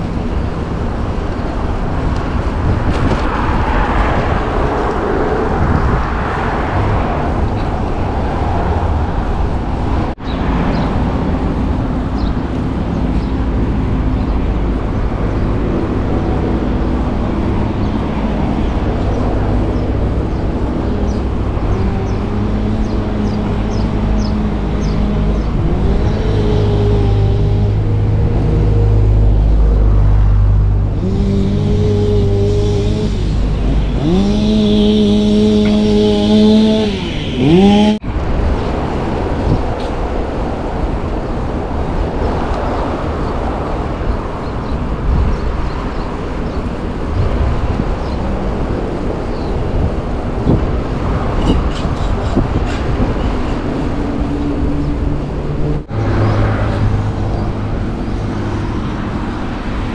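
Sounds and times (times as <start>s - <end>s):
vehicle engine revving: 0.0s - 38.2s, 46.4s - 59.9s
wind rushing over microphone: 0.0s - 59.9s.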